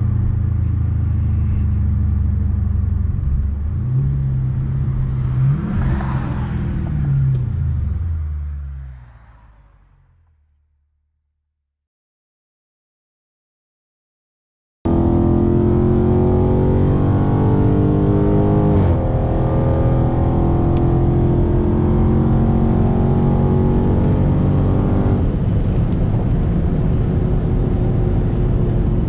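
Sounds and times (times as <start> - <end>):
car engine accelerating: 0.0 - 10.4, 14.9 - 29.0
road and wind noise: 0.0 - 10.6, 14.9 - 29.0.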